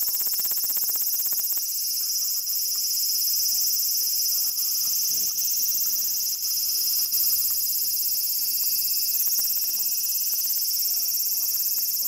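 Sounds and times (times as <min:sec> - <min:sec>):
cicada buzzing: 0:00.0 - 0:12.0.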